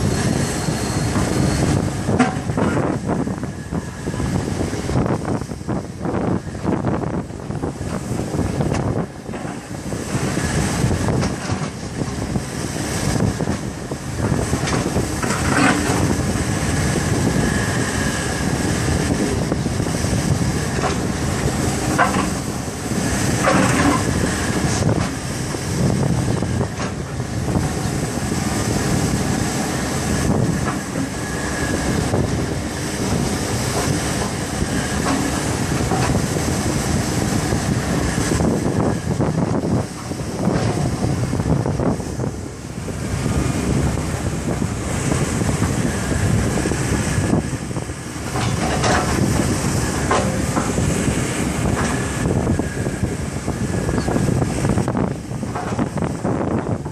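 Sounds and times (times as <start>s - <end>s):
excavator engine and hydraulics: 0.0s - 56.9s.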